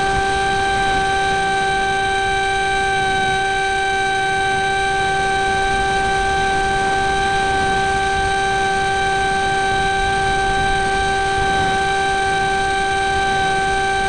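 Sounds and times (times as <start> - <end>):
wind rushing over microphone: 0.0 - 3.6, 4.4 - 14.0
electric motor and propeller whine: 0.0 - 14.0.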